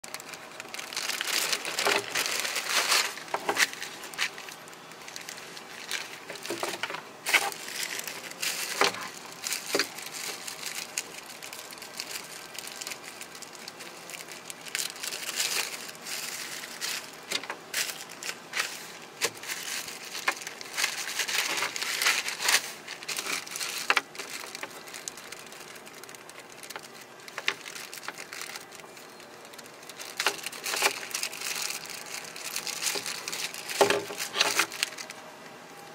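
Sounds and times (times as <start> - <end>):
plastic bags crinkling: 0.0 - 35.9.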